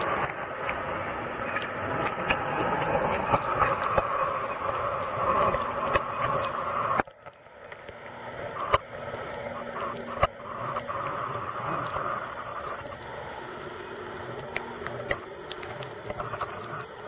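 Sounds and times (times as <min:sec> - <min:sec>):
muffled underwater hiss: 0:00.0 - 0:17.0
sharp underwater clicks: 0:00.0 - 0:17.0.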